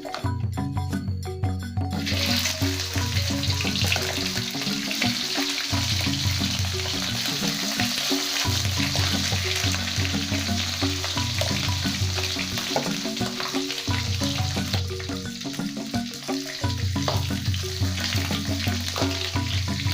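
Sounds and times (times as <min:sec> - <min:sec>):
background music: 0:00.0 - 0:19.9
meat sizzling in hot oil: 0:02.0 - 0:19.9.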